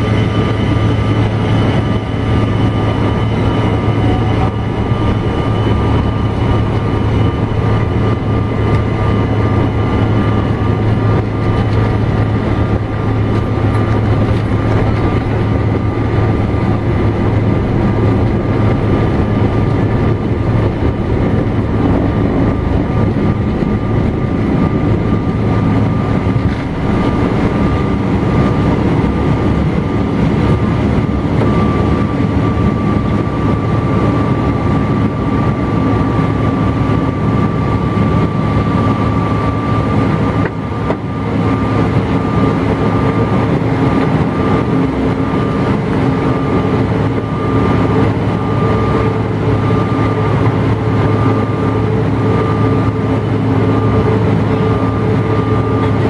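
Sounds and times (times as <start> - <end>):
jet engine rush and whine: 0.0 - 56.0
low steady hum: 0.0 - 56.0.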